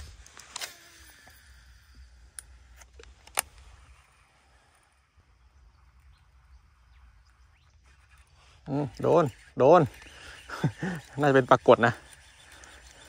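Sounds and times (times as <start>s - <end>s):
fishing reel clicks: 0.0s - 5.1s, 6.7s - 13.0s
faint outdoor background: 0.0s - 13.0s.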